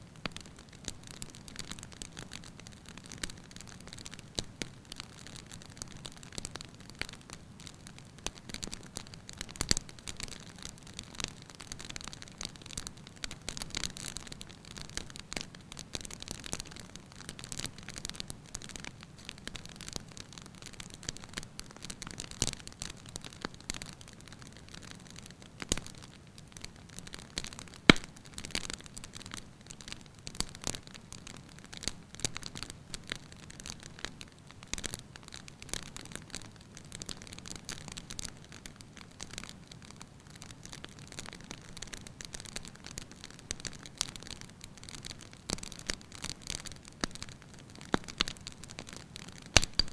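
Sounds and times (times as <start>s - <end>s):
wood fire crackling: 0.2s - 49.9s.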